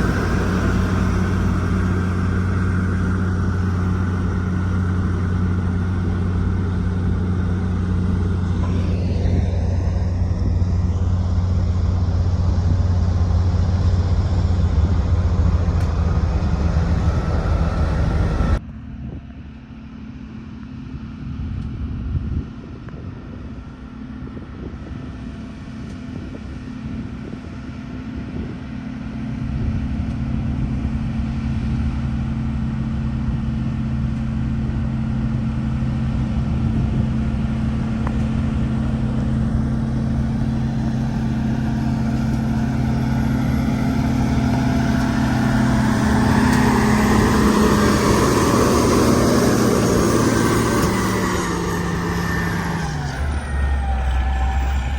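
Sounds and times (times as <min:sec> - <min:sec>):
road roller diesel engine: 0:00.0 - 0:22.3, 0:23.0 - 0:54.9.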